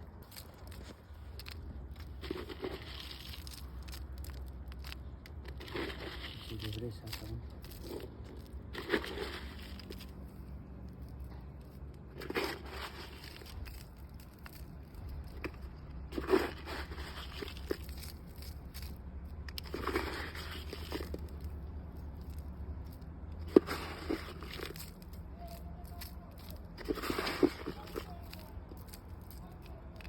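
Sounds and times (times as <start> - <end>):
rustling and crunching handling: 0.0 - 30.0
steady low rumble: 0.0 - 30.0.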